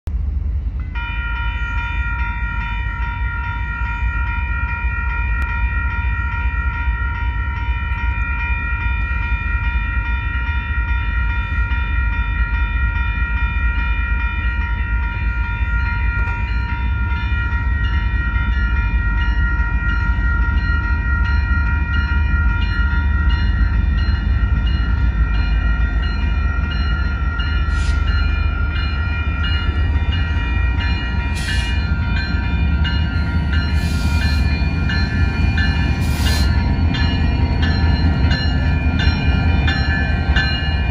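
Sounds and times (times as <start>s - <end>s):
approaching train rumble: 0.0s - 40.9s
railroad crossing bell ringing: 0.2s - 40.9s.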